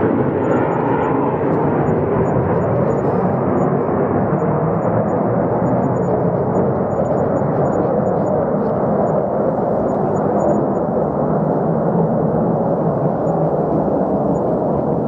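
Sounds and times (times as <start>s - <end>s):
fighter jet engine rush: 0.0s - 15.0s.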